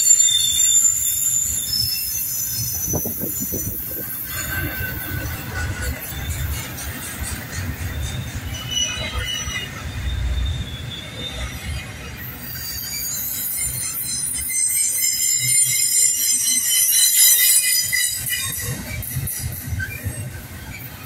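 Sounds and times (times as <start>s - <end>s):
freight train rolling past: 0.0s - 21.0s
wheels squealing on rail: 0.0s - 21.0s.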